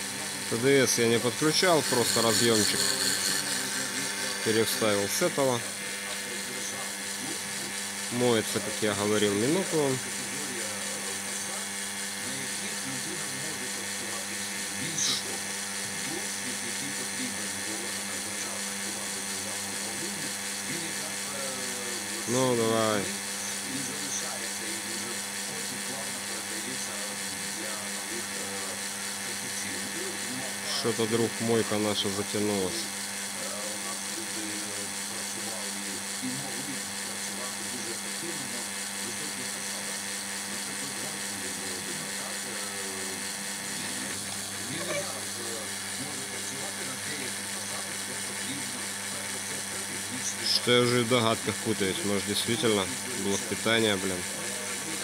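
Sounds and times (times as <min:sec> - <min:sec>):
pump running with low hum: 0:00.0 - 0:55.0.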